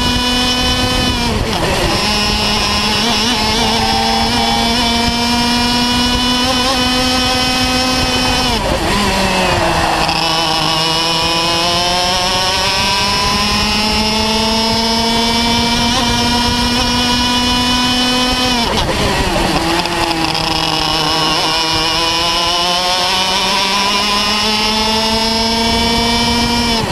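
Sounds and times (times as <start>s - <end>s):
kart engine revving: 0.0s - 26.9s.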